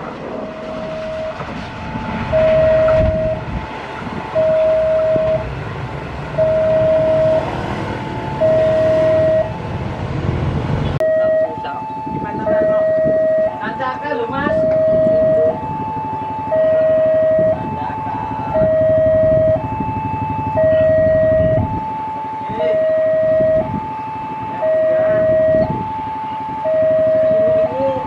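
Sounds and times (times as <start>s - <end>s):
diesel locomotive rumble: 0.0s - 28.0s
two-tone crossing alarm: 0.3s - 9.9s, 10.8s - 28.0s.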